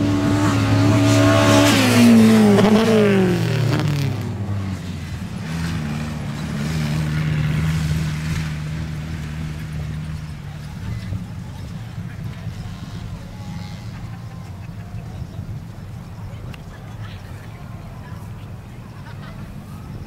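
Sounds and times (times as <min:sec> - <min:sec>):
off-road engines at full throttle: 0:00.0 - 0:20.0.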